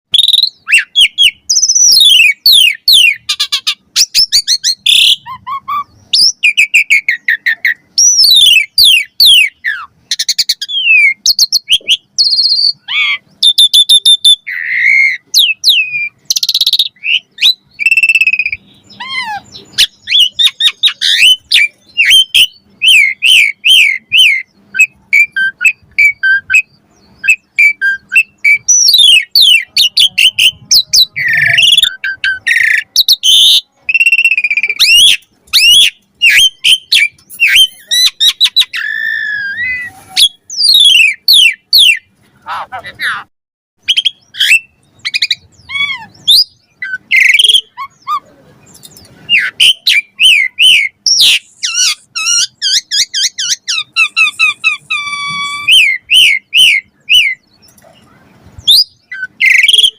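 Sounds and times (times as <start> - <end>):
starling singing: 0.1 - 59.9.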